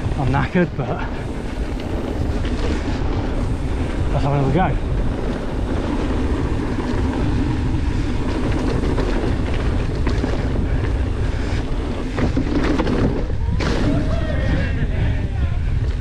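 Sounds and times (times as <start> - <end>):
bike knocks and rattles: 0.0 - 14.7
bike tyre noise on dirt: 0.0 - 16.0
wind on camera microphone: 0.0 - 16.0.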